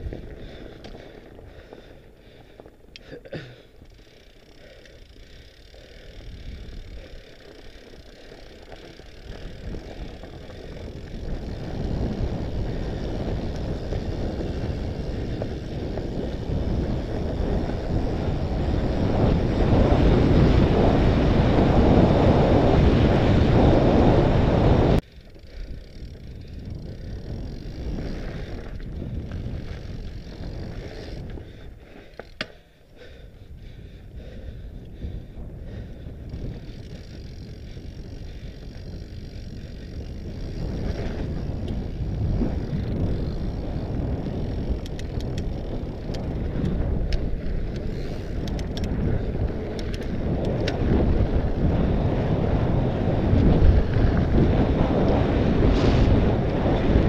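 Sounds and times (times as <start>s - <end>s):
wind buffeting microphone: 0.0s - 1.8s, 6.1s - 32.4s, 33.4s - 57.0s
bike tyres on loose stones: 0.0s - 57.0s.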